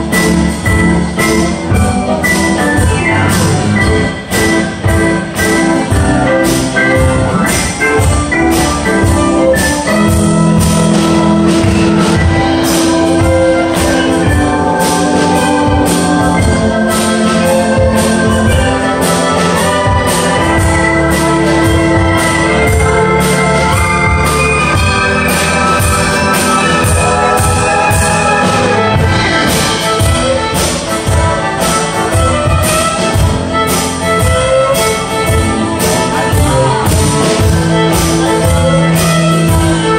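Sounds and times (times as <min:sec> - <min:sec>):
fiddle: 0:00.0 - 0:39.9
keyboard: 0:00.0 - 0:39.9
percussion: 0:00.0 - 0:39.9.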